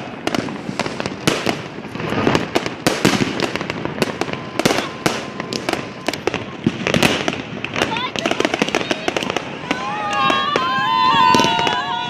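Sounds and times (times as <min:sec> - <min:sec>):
firecrackers crackling: 0:00.0 - 0:12.0
fireworks bangs: 0:00.0 - 0:12.0.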